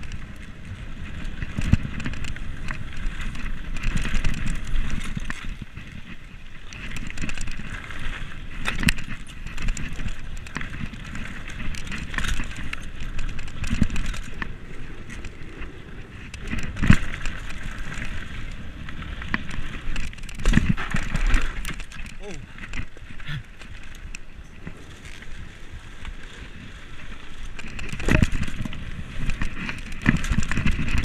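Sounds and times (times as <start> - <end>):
bike rattling: 0.0 - 31.0
bike tyres crunching on gravel: 0.0 - 31.0.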